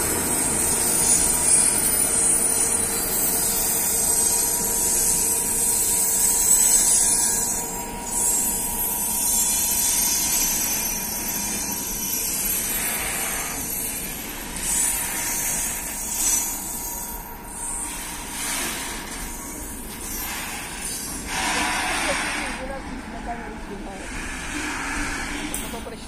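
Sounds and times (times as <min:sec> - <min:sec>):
train wheels rushing on rail: 0:00.0 - 0:26.0.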